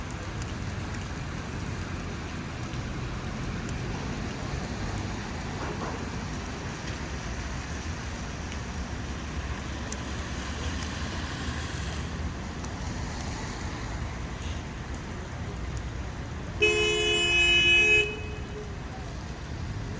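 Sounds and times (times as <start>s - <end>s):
heavy rain falling: 0.0s - 16.8s.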